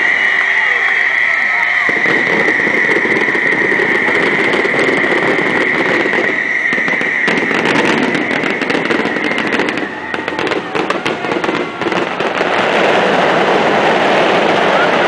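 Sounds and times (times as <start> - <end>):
crowd hubbub: 0.0 - 15.0
fireworks popping and crackling: 0.0 - 15.0
steady high whine: 0.0 - 15.0.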